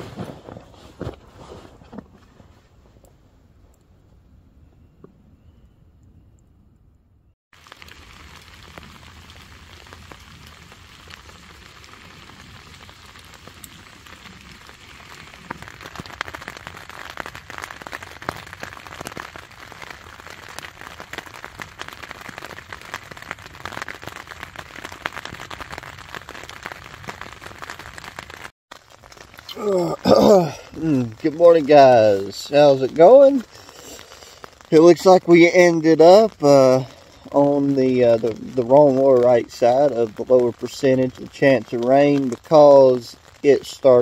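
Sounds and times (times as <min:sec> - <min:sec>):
rain pattering on a tent: 0:00.0 - 0:02.7, 0:07.5 - 0:44.0.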